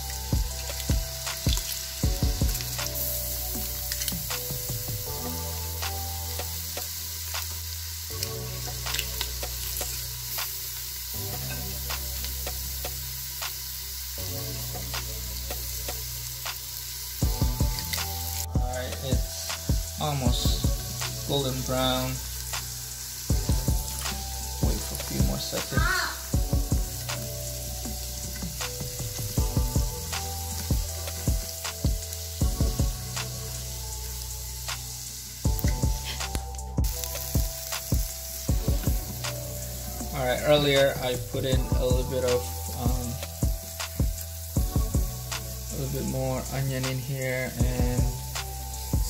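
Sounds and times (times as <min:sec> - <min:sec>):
onion sizzling in oil: 0:00.0 - 0:49.0.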